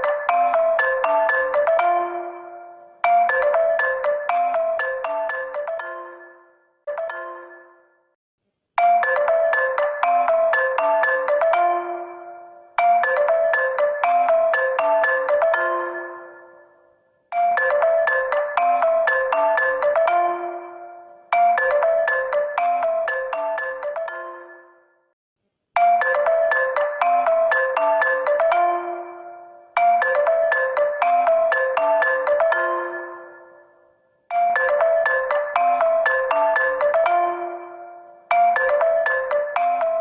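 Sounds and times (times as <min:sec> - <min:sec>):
phone ringtone melody: 0:00.0 - 0:08.2, 0:08.8 - 0:25.1, 0:25.8 - 0:40.0.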